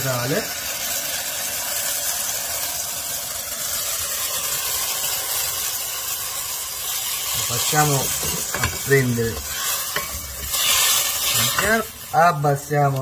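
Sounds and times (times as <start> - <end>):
rice sizzling in a pot: 0.0 - 13.0.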